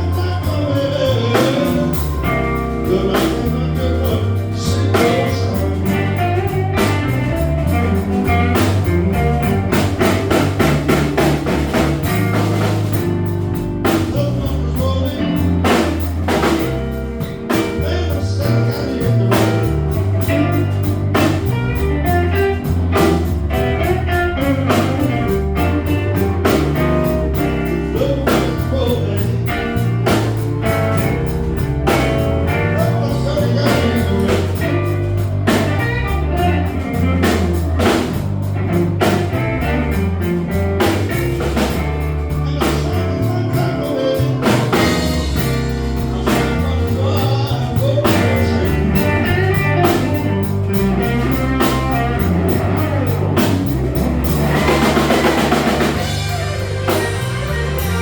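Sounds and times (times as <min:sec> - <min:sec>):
bass guitar: 0:00.0 - 0:58.0
drum kit: 0:00.0 - 0:58.0
lead electric guitar: 0:00.0 - 0:58.0.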